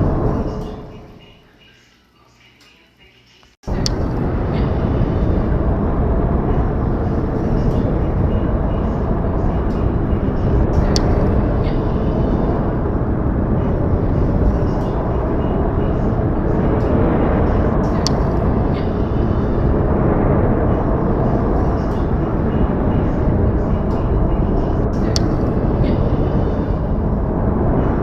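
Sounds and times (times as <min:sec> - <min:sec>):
low rumbling outdoor noise: 0:00.0 - 0:28.0.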